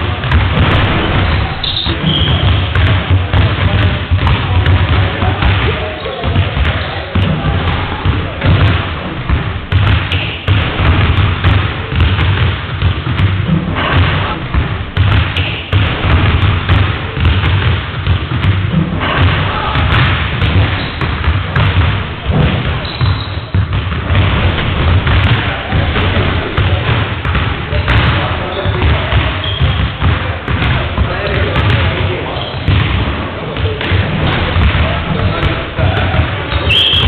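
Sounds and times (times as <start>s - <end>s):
basketballs bouncing on wooden floor: 0.0s - 37.0s.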